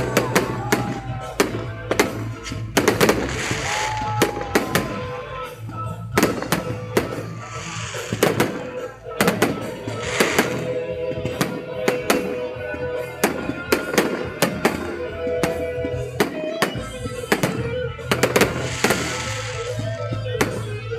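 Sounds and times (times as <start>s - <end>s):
fireworks bangs: 0.0s - 20.9s
music playing: 0.0s - 20.9s.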